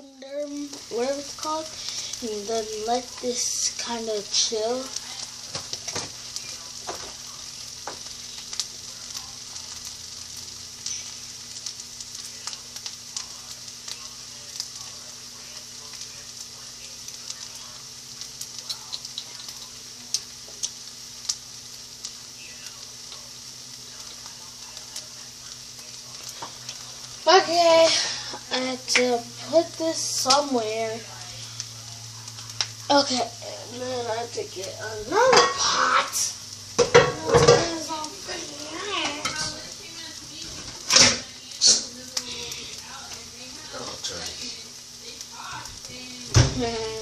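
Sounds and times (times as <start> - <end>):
extractor fan humming: 0.0 - 47.0
food sizzling in a frying pan: 0.0 - 47.0.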